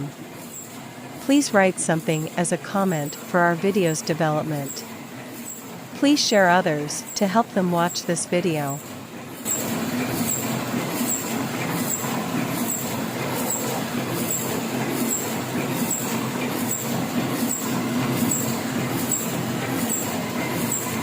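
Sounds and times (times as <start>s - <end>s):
printing press running: 0.0s - 21.0s.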